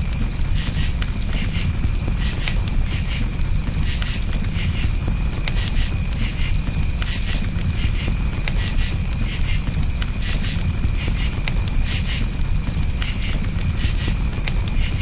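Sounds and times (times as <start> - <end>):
burning wood popping: 0.0 - 15.0
crickets chirping: 0.0 - 15.0
low rumble of flames: 0.0 - 15.0.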